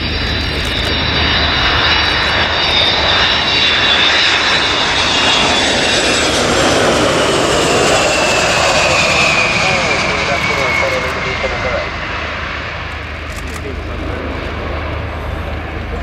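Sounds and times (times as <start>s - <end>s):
jet engine rumble and whine: 0.0s - 16.0s.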